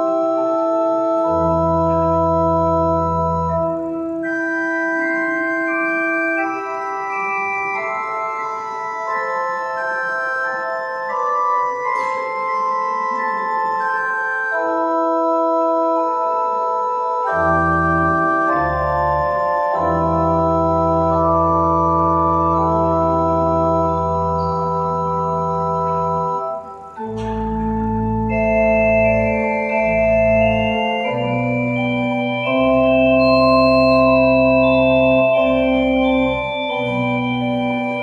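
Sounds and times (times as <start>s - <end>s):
pipe organ playing slow chords: 0.0s - 38.0s.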